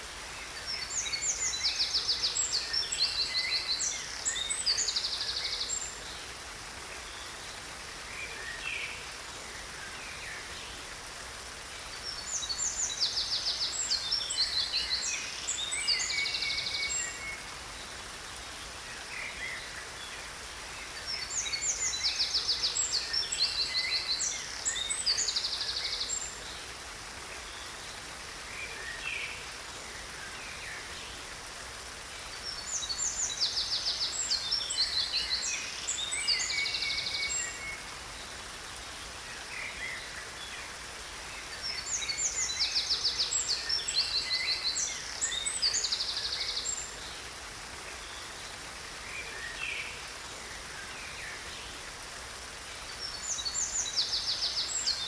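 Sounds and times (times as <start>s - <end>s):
waterfall hissing: 0.0s - 55.0s.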